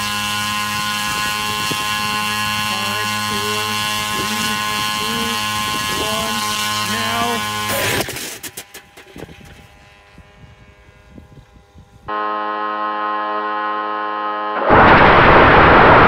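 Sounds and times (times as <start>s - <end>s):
engine roaring at full power: 0.0s - 12.2s, 13.5s - 16.0s
drone engine humming: 0.0s - 16.0s.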